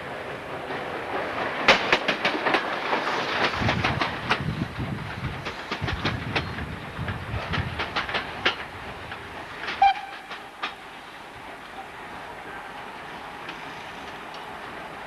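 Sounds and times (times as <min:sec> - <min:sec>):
train wheels clicking over rails: 0:00.0 - 0:15.0.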